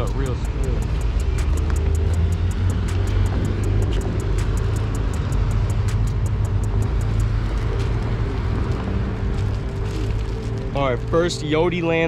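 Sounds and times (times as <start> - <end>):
car traffic passing: 0.0 - 12.0.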